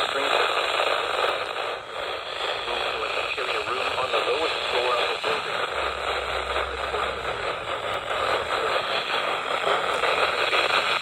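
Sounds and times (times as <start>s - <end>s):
radio static hiss: 0.0s - 11.0s
low hum: 0.4s - 11.0s.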